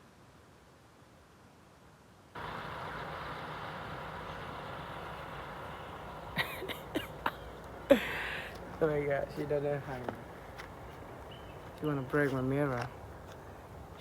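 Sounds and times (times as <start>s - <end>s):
vehicle engine hum: 2.4s - 14.0s.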